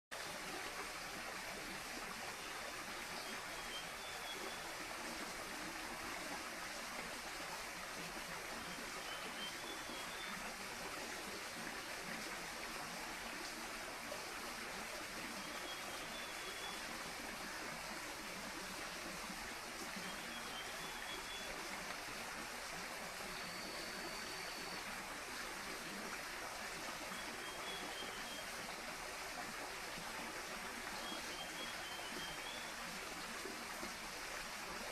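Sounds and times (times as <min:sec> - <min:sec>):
stream water running: 0:00.1 - 0:34.9.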